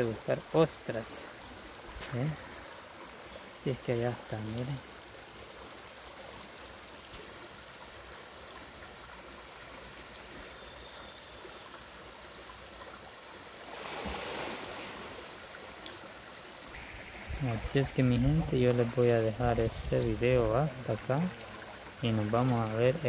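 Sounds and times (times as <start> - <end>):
river water trickling over stones: 0.0 - 23.0.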